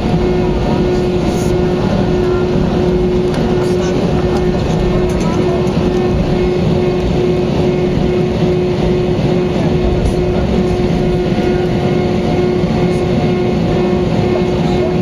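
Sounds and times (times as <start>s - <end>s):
aircraft engine noise: 0.0s - 15.0s
constant hum: 0.0s - 15.0s.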